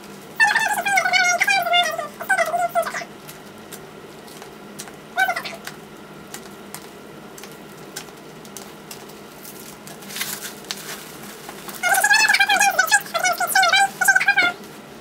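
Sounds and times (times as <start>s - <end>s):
tape crinkling: 2.3s - 14.8s.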